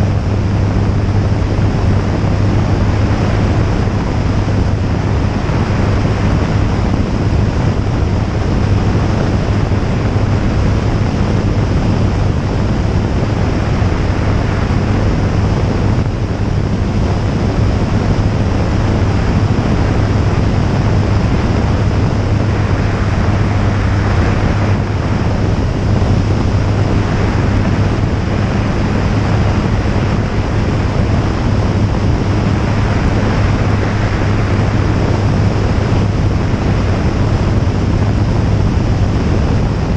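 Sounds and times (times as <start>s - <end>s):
light aircraft engine drone: 0.0s - 39.9s
wind rush over microphone: 0.0s - 39.9s.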